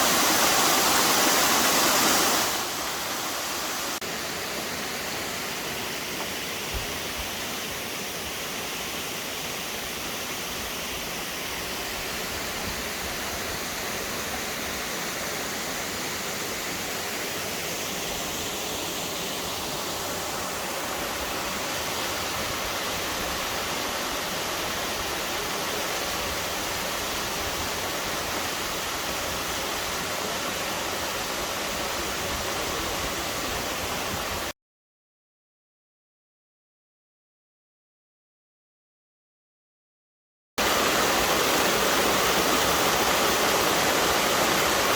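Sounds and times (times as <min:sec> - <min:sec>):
waterfall rushing: 0:00.0 - 0:34.5, 0:40.6 - 0:44.9.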